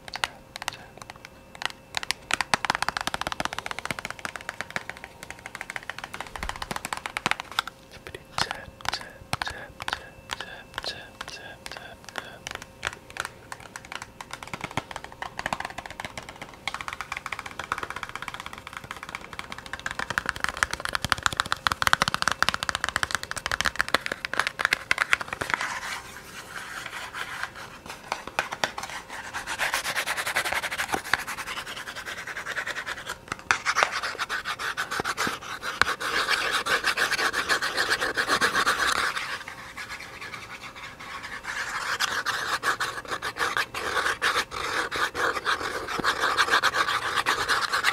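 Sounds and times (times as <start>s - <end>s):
fast scratchy tapping: 0.0s - 47.9s.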